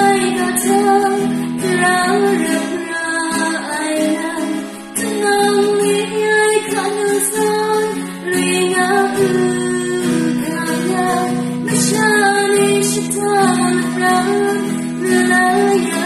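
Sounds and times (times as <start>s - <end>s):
acoustic guitar: 0.0s - 16.0s
woman singing slow song: 0.0s - 16.0s.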